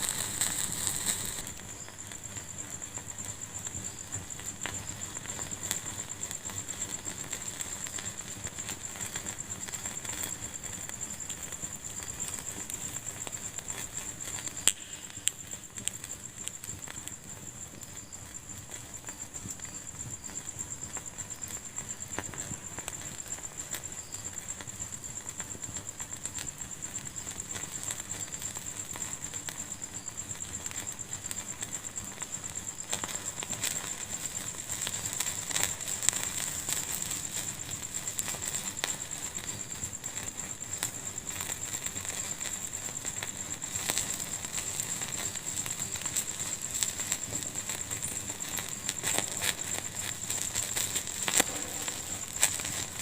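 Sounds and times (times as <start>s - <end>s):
faint high-pitched whine: 0.0s - 53.0s
wood fire crackling: 0.0s - 53.0s.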